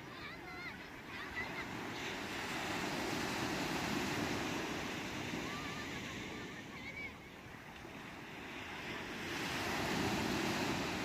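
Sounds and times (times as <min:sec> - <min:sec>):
waves washing onto shore: 0:00.0 - 0:11.0.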